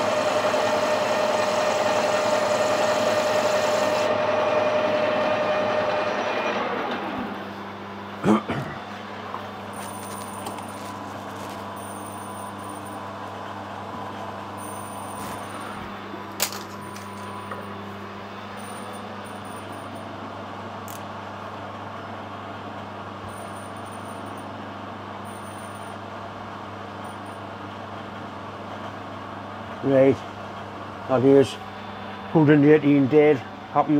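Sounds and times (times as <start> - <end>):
workshop machinery hum: 0.0 - 33.9.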